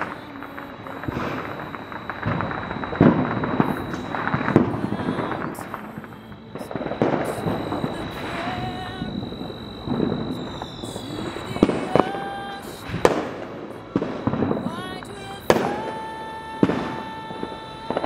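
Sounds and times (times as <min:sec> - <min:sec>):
fireworks booming: 0:00.0 - 0:18.0
fireworks crackling: 0:00.0 - 0:18.0
sharp cracks of fireworks shots: 0:00.0 - 0:18.0.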